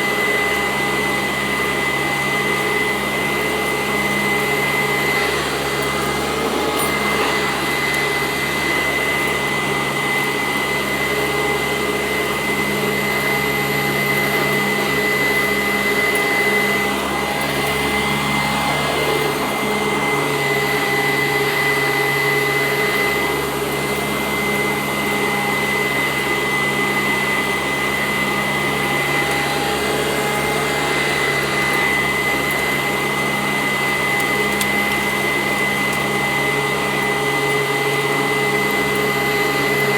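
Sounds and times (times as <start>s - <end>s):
upright vacuum running: 0.0s - 39.9s.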